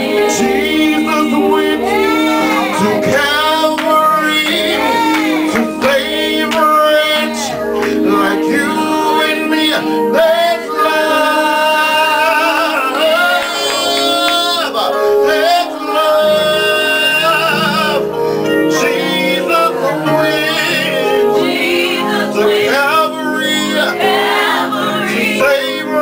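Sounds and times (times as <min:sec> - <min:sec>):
instrumental accompaniment: 0:00.0 - 0:26.0
voices singing held notes: 0:00.0 - 0:26.0.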